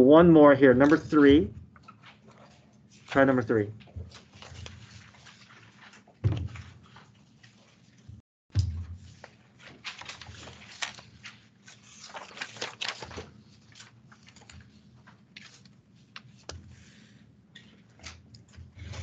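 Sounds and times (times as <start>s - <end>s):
paper rustling on a desk: 0.8s - 19.0s.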